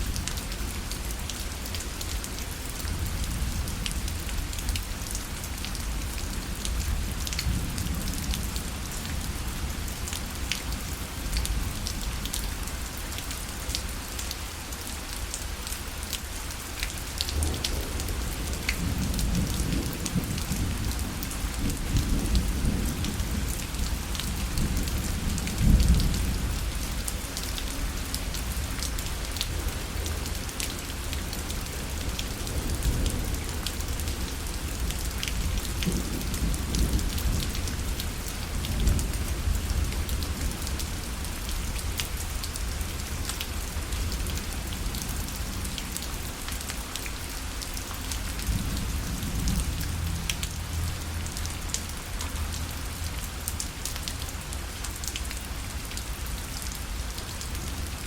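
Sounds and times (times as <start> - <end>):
rain falling on a parasol: 0.0 - 58.0.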